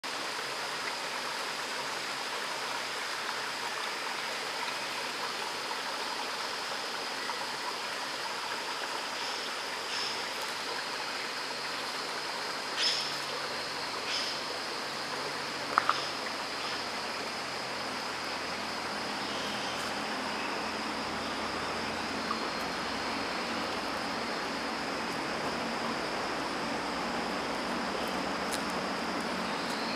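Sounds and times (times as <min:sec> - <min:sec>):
creek water over rocks: 0:00.0 - 0:29.9.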